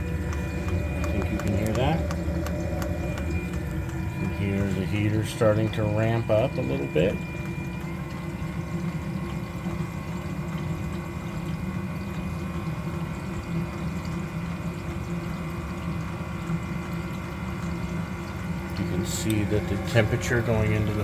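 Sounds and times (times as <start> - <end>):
coolant circulating: 0.0 - 21.0
water heater humming: 0.0 - 21.0.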